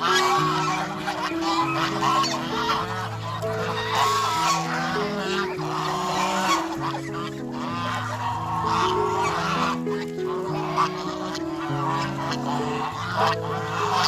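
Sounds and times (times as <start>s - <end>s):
geese honking: 0.0s - 14.0s
music of slow held notes: 0.0s - 14.0s.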